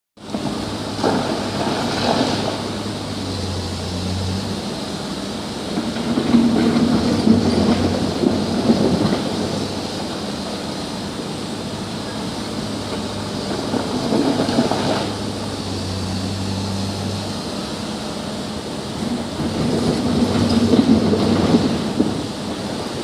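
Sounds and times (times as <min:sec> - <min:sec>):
excavator diesel engine droning: 0:00.2 - 0:23.0.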